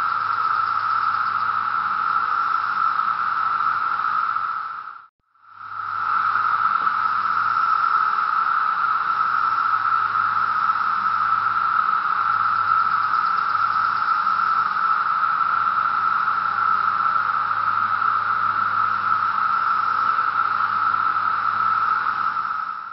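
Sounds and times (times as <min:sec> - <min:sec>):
cicadas chorus drone: 0:00.0 - 0:22.9.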